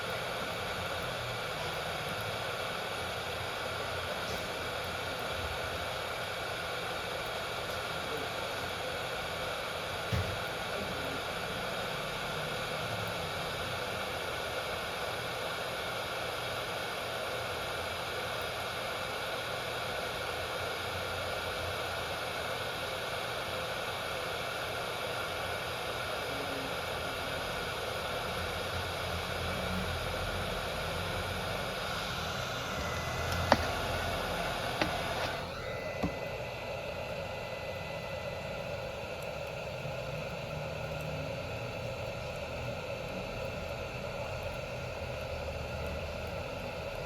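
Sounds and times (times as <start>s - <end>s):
steady hiss of fan: 0.0s - 47.0s.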